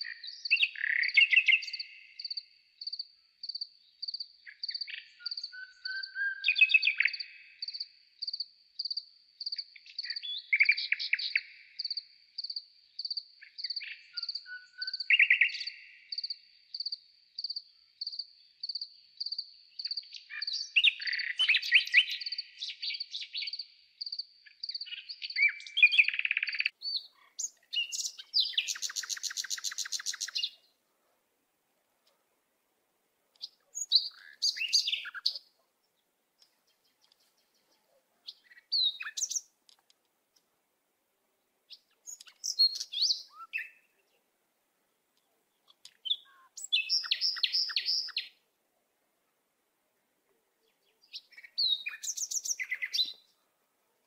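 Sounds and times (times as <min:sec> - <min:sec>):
birds singing and calling: 0:00.0 - 0:30.7, 0:33.3 - 0:35.6, 0:36.4 - 0:40.0, 0:41.7 - 0:44.2, 0:45.2 - 0:48.4, 0:50.6 - 0:53.4.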